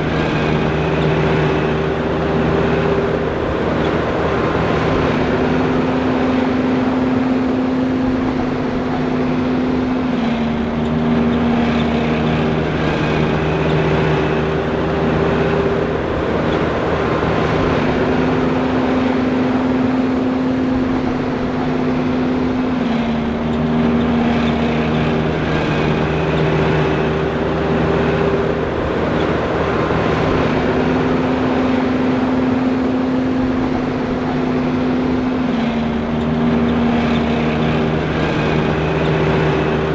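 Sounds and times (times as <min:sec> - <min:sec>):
forage harvester engine hum: 0:00.0 - 0:39.9.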